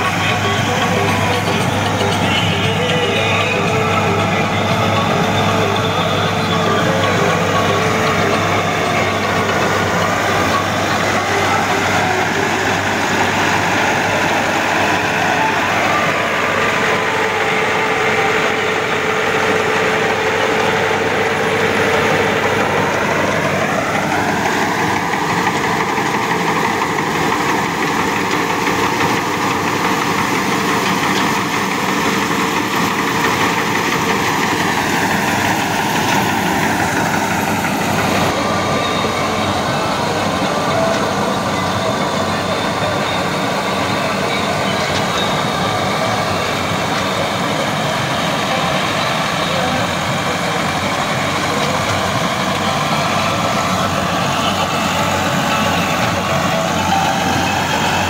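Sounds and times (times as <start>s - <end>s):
rising mechanical whine: 0.0s - 58.0s
straw chopper and blower running: 0.0s - 58.0s
tractor diesel engine working: 0.0s - 58.0s.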